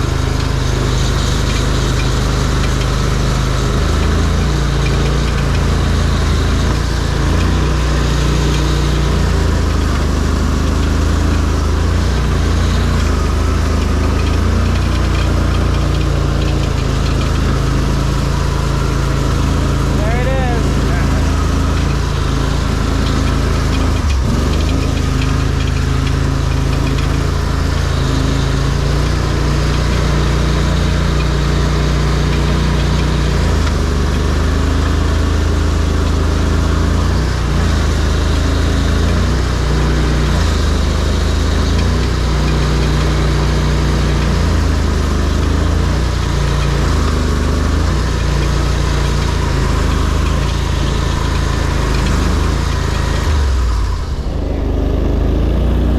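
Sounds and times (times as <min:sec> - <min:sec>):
off-road vehicle engine running: 0:00.0 - 0:55.9.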